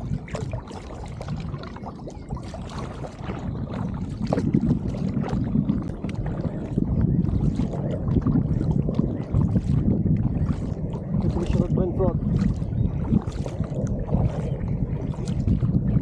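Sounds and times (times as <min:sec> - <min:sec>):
low rumble: 0:00.0 - 0:16.0
paddle splashing water: 0:00.0 - 0:16.0.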